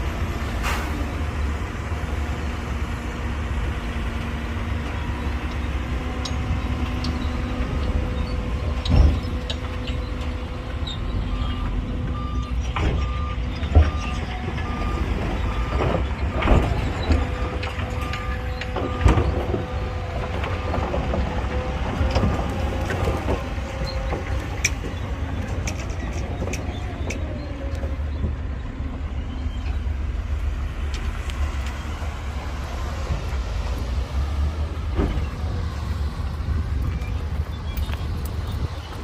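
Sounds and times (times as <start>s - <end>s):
heavy diesel machinery rumbling: 0.0s - 39.0s.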